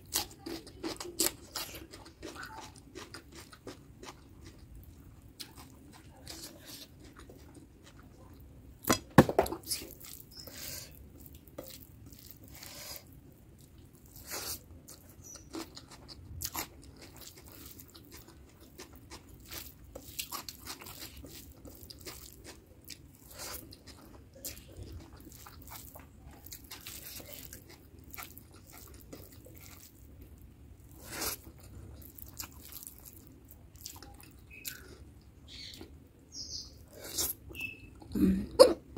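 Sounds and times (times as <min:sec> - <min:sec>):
person chewing: 0:00.0 - 0:08.5, 0:09.5 - 0:38.9.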